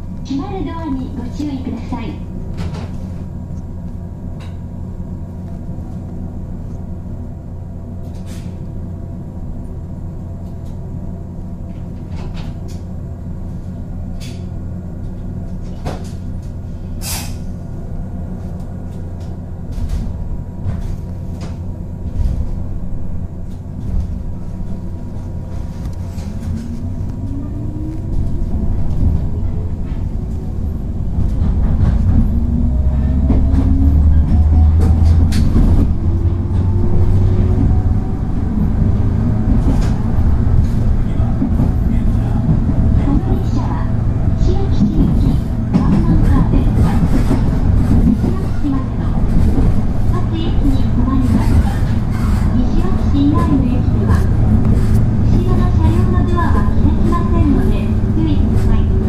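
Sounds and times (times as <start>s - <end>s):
electric train humming: 0.0s - 59.0s.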